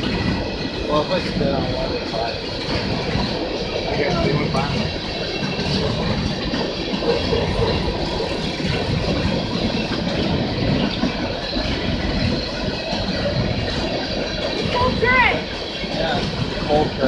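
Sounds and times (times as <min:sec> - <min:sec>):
freight train wheels rumbling on rails: 0:00.0 - 0:17.0.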